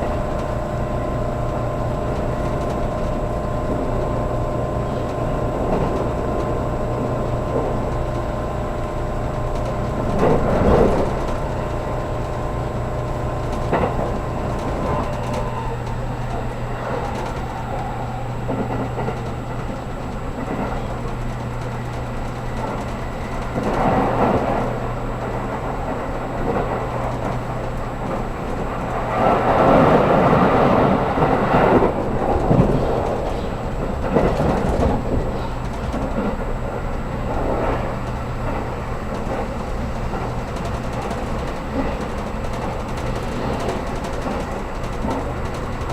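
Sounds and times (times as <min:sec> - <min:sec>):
train interior rumble and hum: 0:00.0 - 0:45.9.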